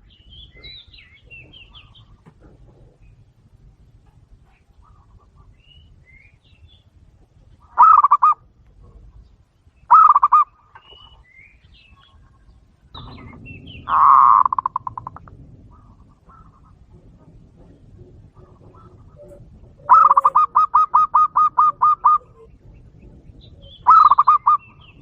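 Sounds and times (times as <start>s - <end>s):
dove cooing: 0.0s - 5.6s, 7.4s - 9.2s, 9.9s - 11.2s, 11.9s - 25.0s.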